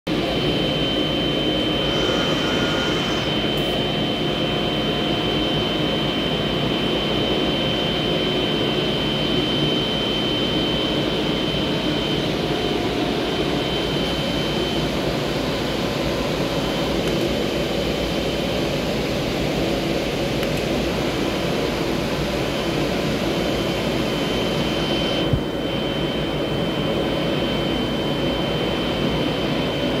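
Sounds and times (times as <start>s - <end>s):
high whine: 0.1s - 30.0s.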